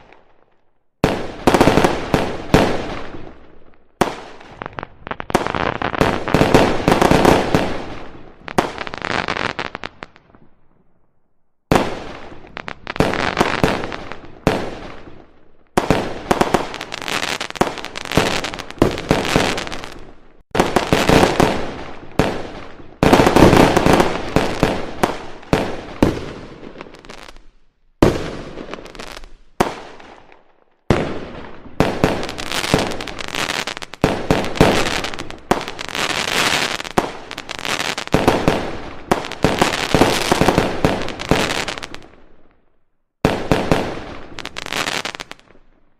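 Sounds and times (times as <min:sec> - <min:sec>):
fireworks crackle: 0:01.2 - 0:10.2, 0:15.8 - 0:30.2, 0:31.0 - 0:42.3, 0:43.3 - 0:45.6.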